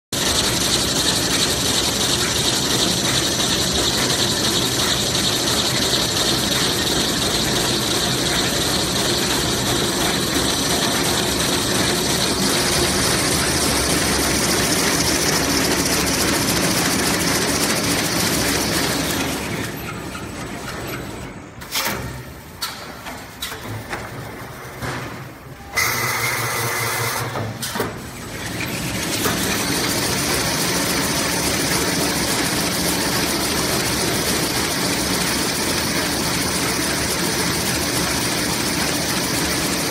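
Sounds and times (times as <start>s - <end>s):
paper rewinding machine running: 0.2s - 21.2s, 25.8s - 27.4s, 28.2s - 39.9s.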